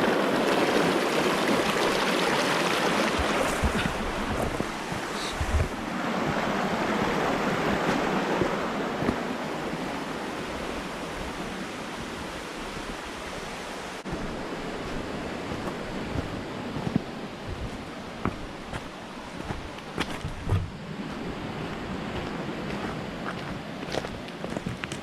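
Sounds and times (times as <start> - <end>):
stream water rushing and splashing: 0.0 - 25.0.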